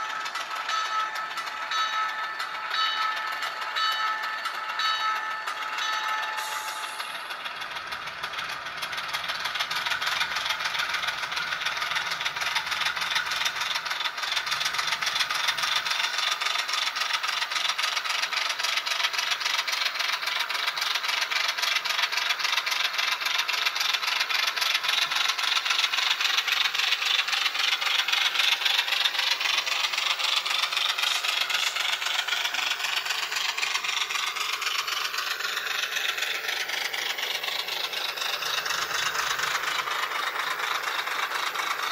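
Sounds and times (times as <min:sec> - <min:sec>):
tinny diesel engine chugging: 0:00.0 - 0:41.9.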